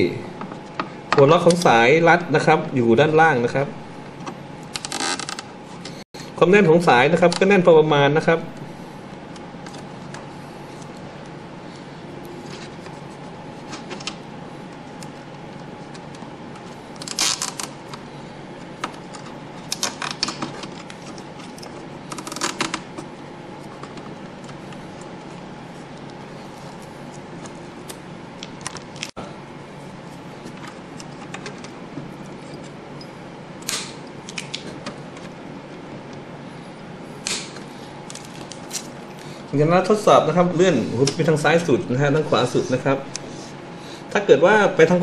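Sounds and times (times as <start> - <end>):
steady background hum: 0.0 - 45.0.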